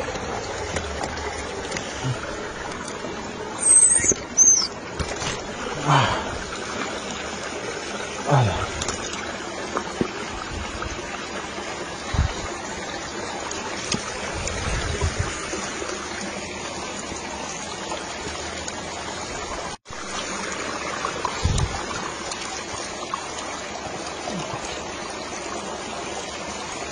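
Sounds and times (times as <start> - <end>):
stream running over rocks: 0.0 - 26.9.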